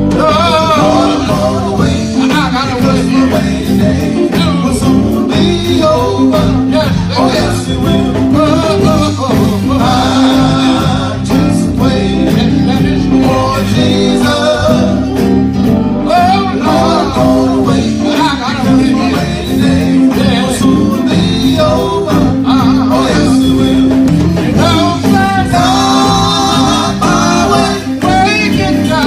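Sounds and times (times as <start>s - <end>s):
song with singing over a band: 0.0s - 29.0s.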